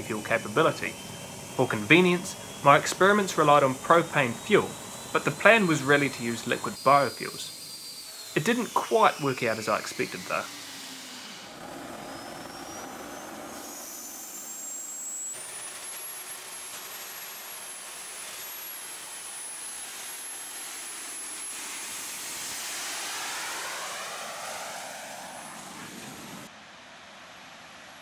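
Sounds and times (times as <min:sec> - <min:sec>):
gas turbine engine whining: 0:00.0 - 0:26.5.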